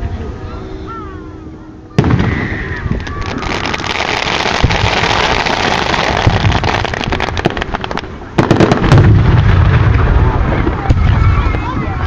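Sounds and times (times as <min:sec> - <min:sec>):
firework bang: 0:02.0 - 0:11.9
fireworks crackling: 0:02.0 - 0:12.0.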